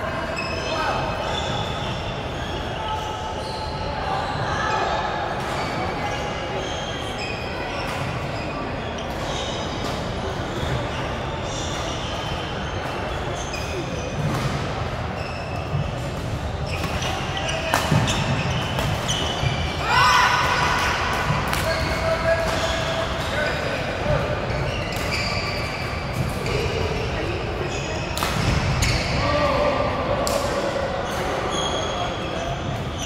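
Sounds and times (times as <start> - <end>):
shoes squeaking on court floor: 0.3 - 29.4, 31.0 - 33.0.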